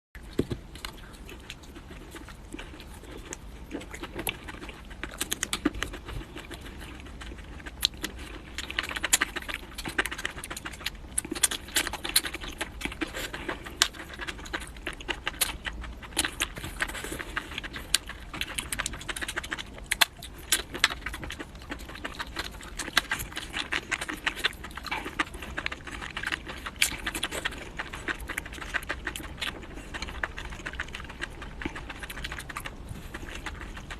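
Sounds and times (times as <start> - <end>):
food crunching while chewed: 0.2 - 33.9.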